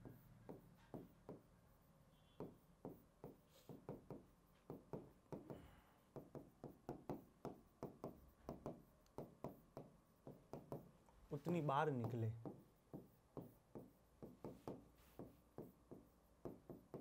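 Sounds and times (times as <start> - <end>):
pen tapping on screen: 0.0 - 1.5, 2.3 - 17.0.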